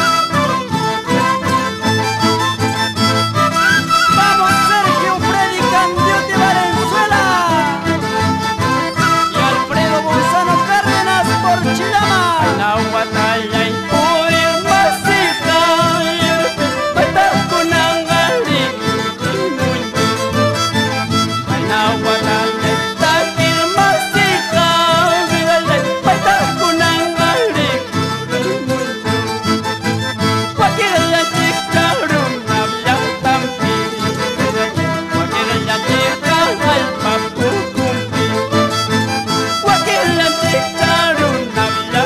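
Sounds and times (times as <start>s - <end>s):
folk dance music with violin: 0.0s - 42.0s.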